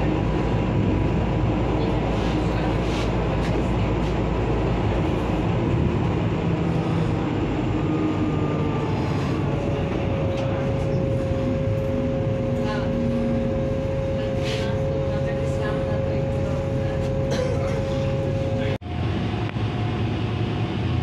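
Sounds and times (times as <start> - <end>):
train rumble and rail noise: 0.0 - 21.0.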